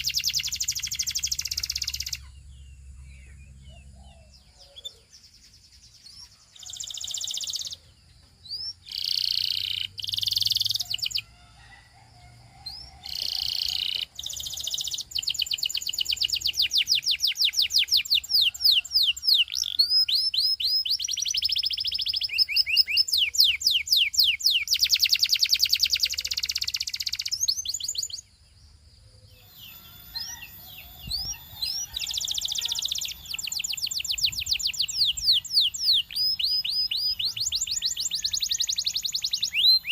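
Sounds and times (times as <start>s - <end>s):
canary singing: 0.0s - 28.4s, 29.2s - 39.9s.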